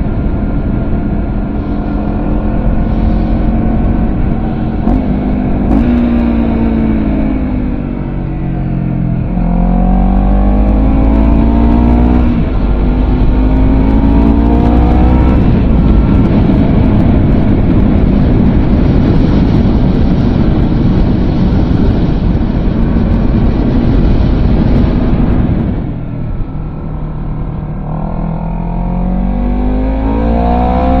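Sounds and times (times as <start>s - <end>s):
motorcycle engine accelerating: 0.0s - 31.0s
steady rushing noise: 0.0s - 31.0s.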